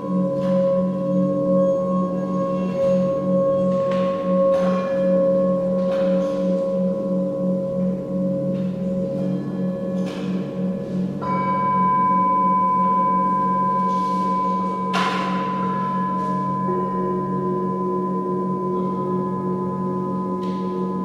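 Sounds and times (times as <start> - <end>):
low pulsing drone: 0.0 - 21.0
singing bowls ringing: 0.0 - 21.0.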